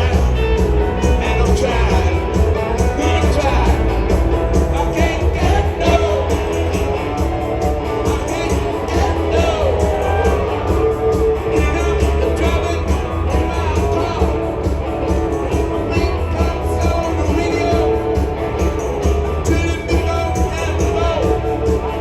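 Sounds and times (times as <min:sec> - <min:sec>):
lead vocal singing: 0:00.0 - 0:22.0
rock band playing: 0:00.0 - 0:22.0.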